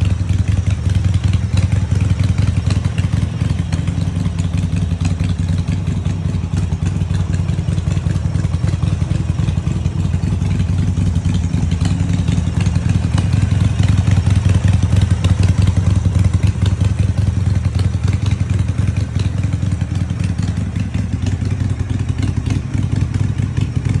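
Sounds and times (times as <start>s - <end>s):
motorcycle engine throbbing: 0.0s - 24.0s.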